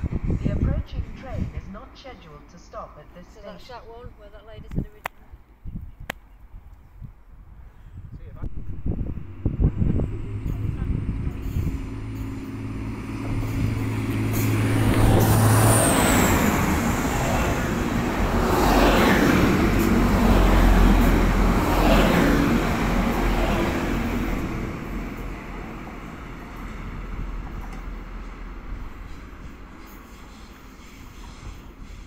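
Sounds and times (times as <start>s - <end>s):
rumble of wheels on rail: 0.0s - 5.1s, 8.2s - 32.0s
train engine hum: 0.0s - 32.0s.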